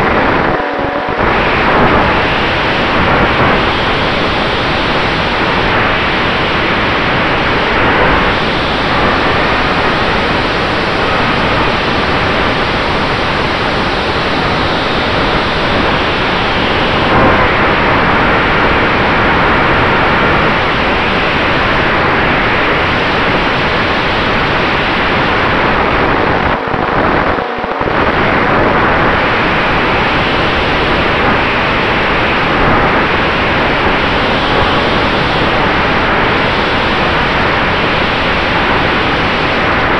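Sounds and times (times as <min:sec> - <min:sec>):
airflow rushing over microphone: 0:00.0 - 0:39.9.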